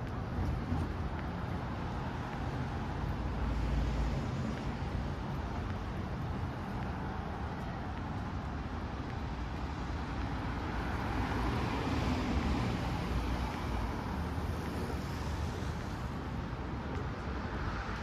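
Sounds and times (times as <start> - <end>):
rumble of passing cars: 0.0 - 18.0.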